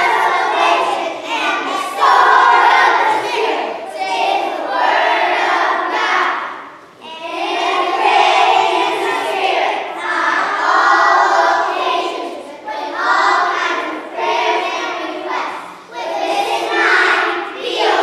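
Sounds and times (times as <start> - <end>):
young children singing: 0.0 - 18.0.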